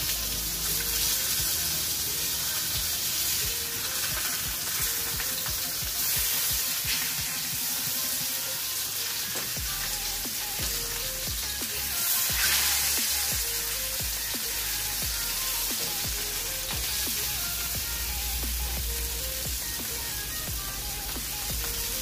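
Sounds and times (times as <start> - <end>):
fish sizzling in frying pan: 0.0 - 22.0.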